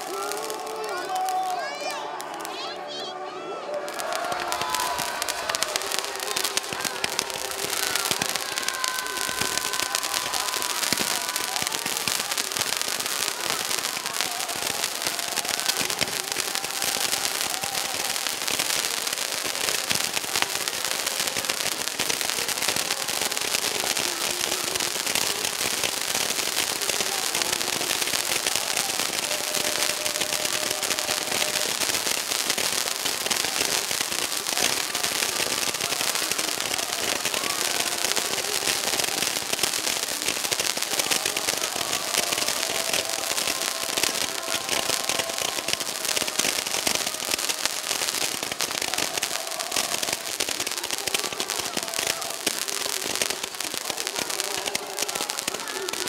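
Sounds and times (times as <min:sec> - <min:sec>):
fireworks crackling and hissing: 0:00.0 - 0:56.0.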